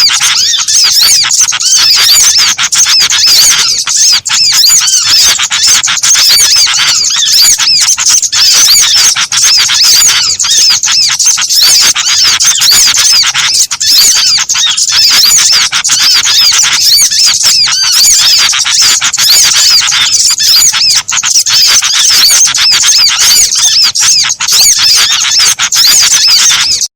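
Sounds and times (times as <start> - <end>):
songbirds chirping and twittering: 0.0 - 26.9.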